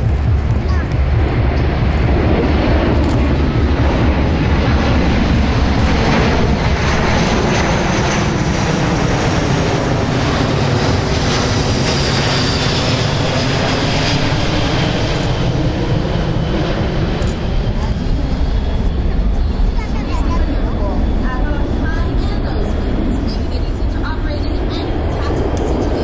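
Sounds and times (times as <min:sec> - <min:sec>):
high turbine whine: 0:00.0 - 0:26.0
jet engines rumbling overhead: 0:00.0 - 0:26.0.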